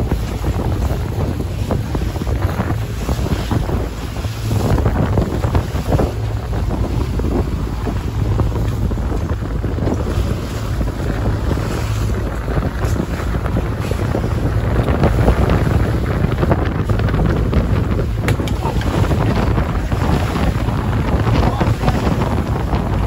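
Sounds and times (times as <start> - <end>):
boat wake rushing: 0.0 - 23.0
outboard motor running: 0.0 - 23.0
wind buffeting microphone: 0.0 - 23.0.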